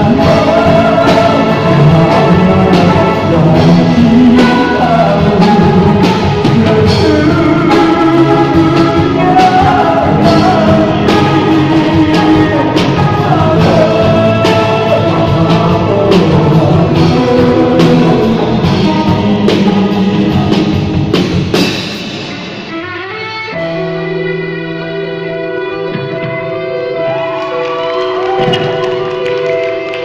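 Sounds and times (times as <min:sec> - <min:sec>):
drum kit beat: 0:00.0 - 0:24.8
electric guitar: 0:00.0 - 0:30.0.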